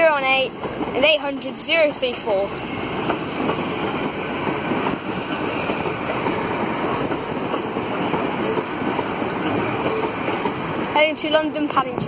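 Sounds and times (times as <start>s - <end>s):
diesel engines: 0.0s - 12.0s
train wheels rumbling on rail: 0.0s - 12.0s.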